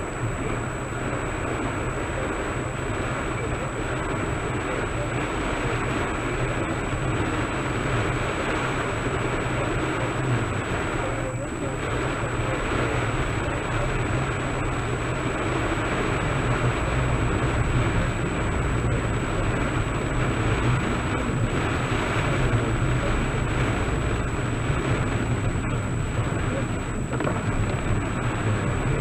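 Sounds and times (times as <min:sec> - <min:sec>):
car engine and road rumble: 0:00.0 - 0:29.0
tyres hissing on wet road: 0:00.0 - 0:29.0.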